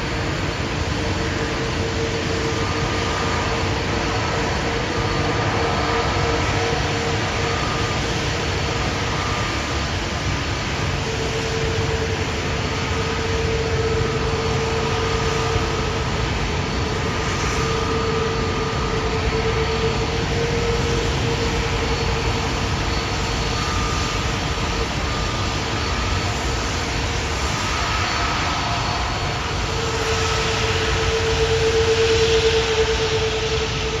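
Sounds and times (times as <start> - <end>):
jet airliner rumble and whine: 0.0 - 34.0.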